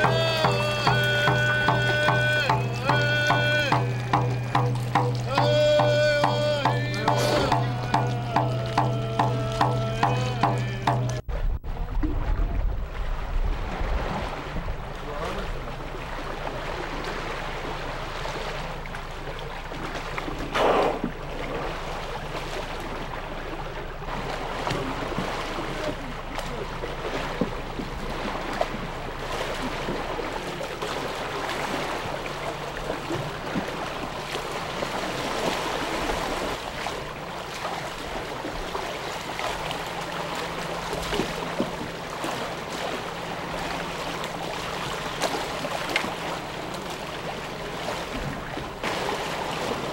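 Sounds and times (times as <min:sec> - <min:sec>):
water splashing around canoe: 0:00.0 - 0:49.9.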